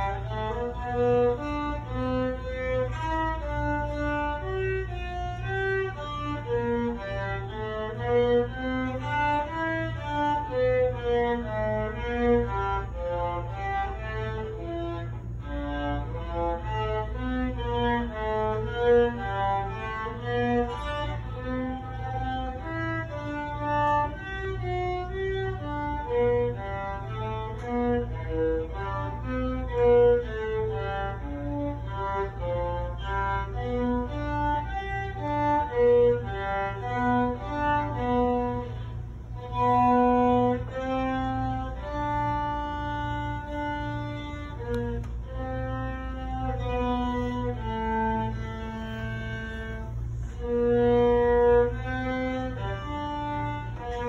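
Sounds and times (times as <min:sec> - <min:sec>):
solo violin melody: 0:00.0 - 0:54.0.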